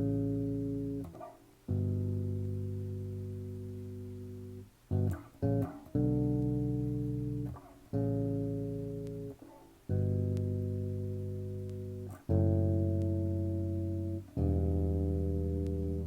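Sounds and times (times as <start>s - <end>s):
guitar chords ringing: 0.0s - 16.0s.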